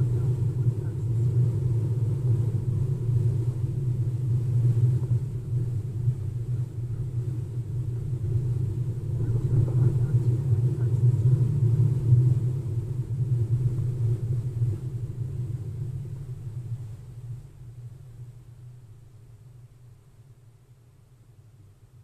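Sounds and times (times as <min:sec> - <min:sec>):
car tyre and road rumble: 0:00.0 - 0:19.8.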